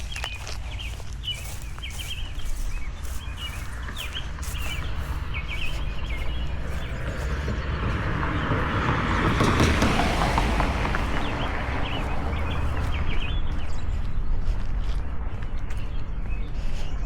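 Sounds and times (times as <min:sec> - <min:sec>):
distant traffic: 0:00.0 - 0:17.0
footsteps on pavement: 0:00.0 - 0:17.0
songbird chirping: 0:00.0 - 0:17.0
wind rumble: 0:00.0 - 0:17.0.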